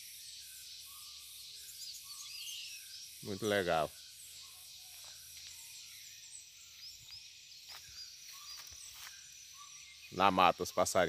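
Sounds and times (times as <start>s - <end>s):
faint birds chirping: 0.0s - 11.0s
high buzz of insects: 0.0s - 11.0s.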